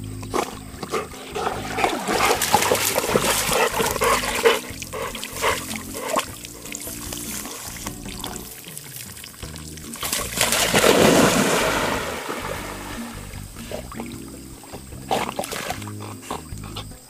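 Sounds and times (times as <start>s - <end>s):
background music: 0.0s - 17.0s
dog splashing into water: 0.2s - 16.5s.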